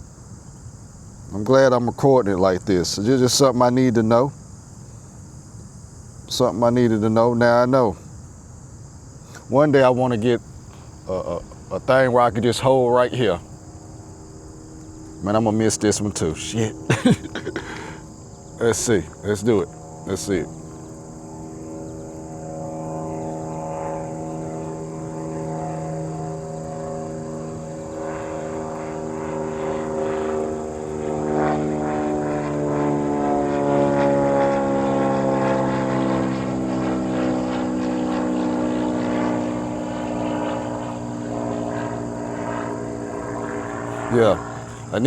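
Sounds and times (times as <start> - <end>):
airplane engine drone: 0.0 - 45.0.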